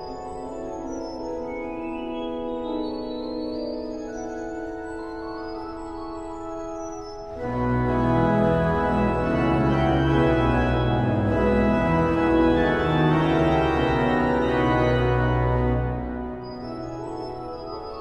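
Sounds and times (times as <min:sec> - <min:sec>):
pipe organ chords: 0:00.0 - 0:18.0.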